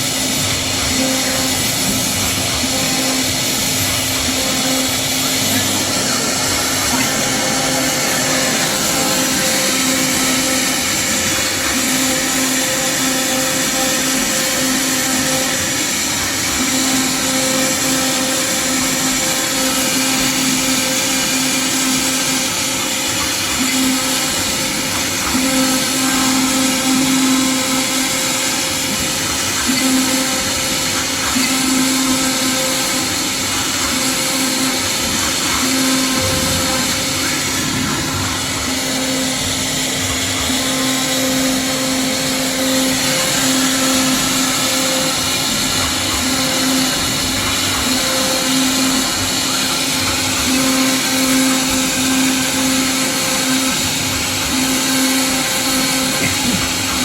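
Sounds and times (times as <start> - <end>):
router spindle whirring: 0.0 - 57.0.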